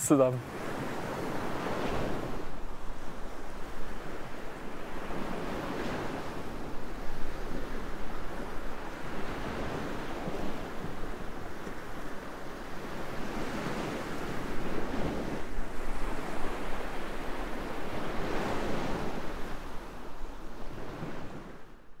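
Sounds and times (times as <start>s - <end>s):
waves washing onto beach: 0.0s - 21.8s
wind: 0.0s - 22.0s.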